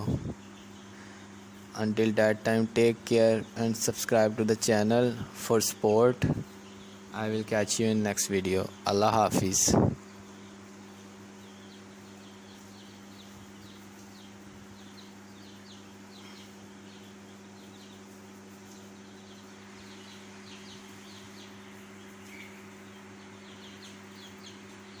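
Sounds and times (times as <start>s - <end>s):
chicks peeping: 0.0s - 25.0s
low electrical hum: 0.0s - 25.0s.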